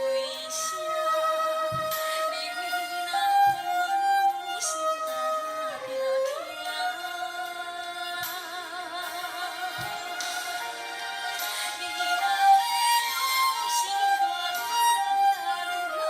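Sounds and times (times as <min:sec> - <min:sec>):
flute: 0:00.0 - 0:16.0
violin: 0:00.0 - 0:16.0.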